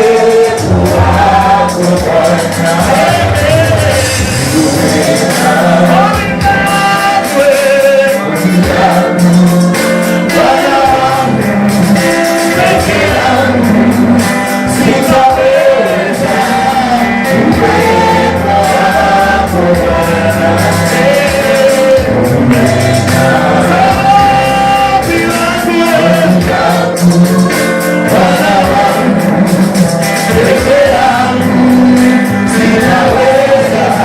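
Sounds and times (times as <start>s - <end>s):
gospel singing over a beat: 0.0s - 34.0s.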